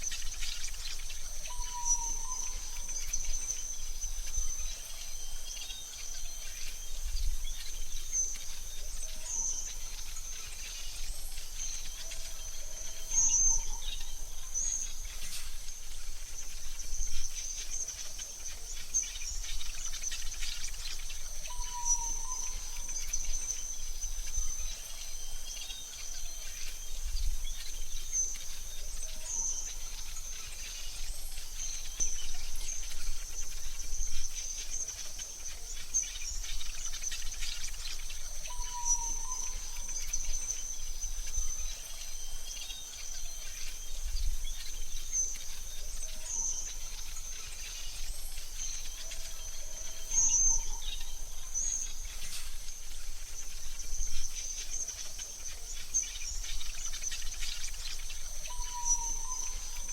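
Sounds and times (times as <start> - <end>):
high insect trill: 0.0 - 59.9.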